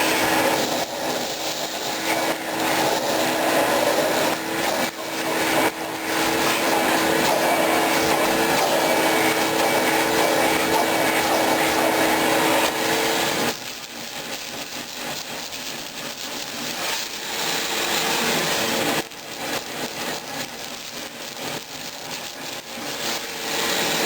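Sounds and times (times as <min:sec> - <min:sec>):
shop vac running: 0:00.0 - 0:24.0.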